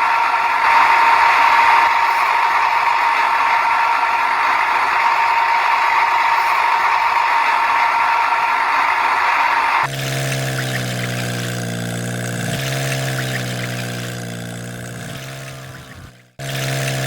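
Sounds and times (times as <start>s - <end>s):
loud hiss: 0.0s - 17.0s
tractor engine running: 0.0s - 17.0s.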